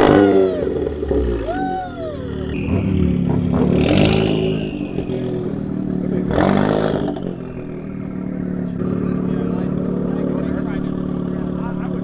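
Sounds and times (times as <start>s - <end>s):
car engine idling: 0.0s - 12.0s
engine revving bursts: 0.0s - 12.0s.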